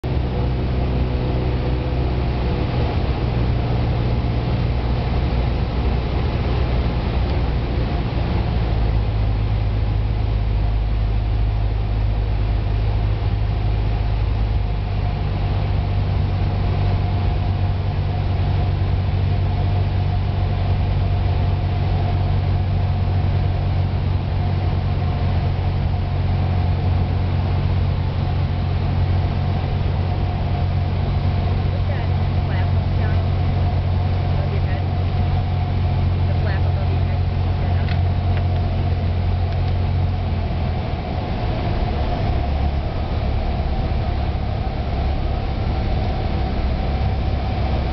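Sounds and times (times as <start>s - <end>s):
airplane engine drone in cabin: 0.0s - 47.9s.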